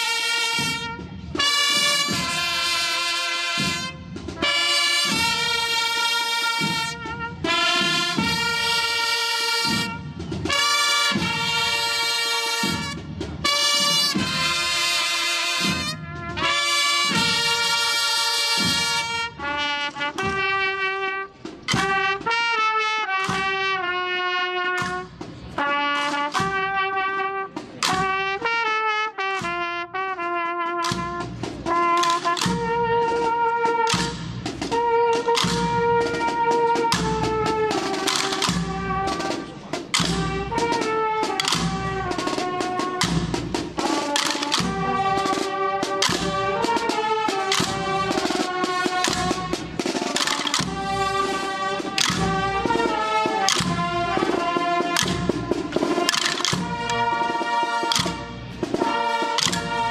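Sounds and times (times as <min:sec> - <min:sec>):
brass band playing march: 0:00.0 - 0:59.9.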